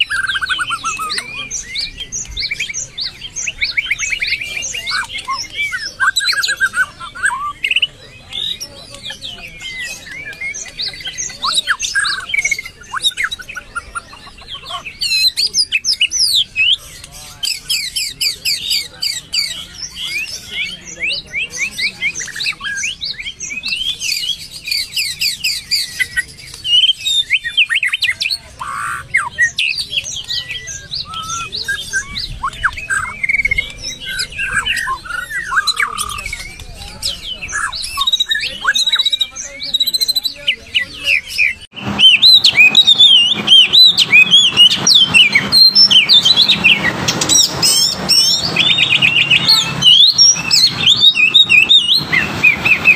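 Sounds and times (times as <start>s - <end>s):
birds singing: 0.0s - 52.9s.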